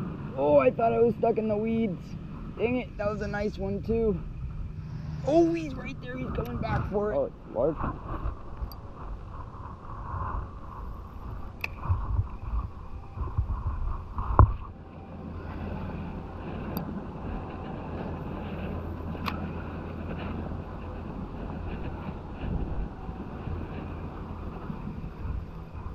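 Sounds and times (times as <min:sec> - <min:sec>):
wind rumbling on microphone: 0:00.0 - 0:25.9.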